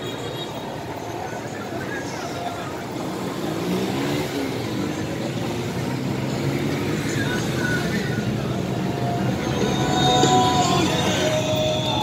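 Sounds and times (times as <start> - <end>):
crowd chatter: 0.0 - 12.0
motorcycle and car engines passing: 2.1 - 12.0.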